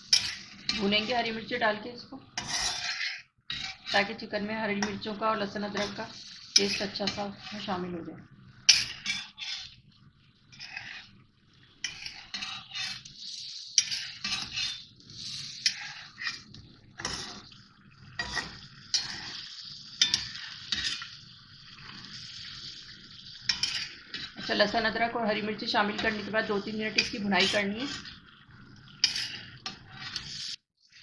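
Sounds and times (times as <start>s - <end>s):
metal spatula scraping pan: 0.0s - 7.9s, 8.6s - 9.8s, 10.5s - 31.0s
chicken sizzling in hot oil: 0.0s - 31.0s.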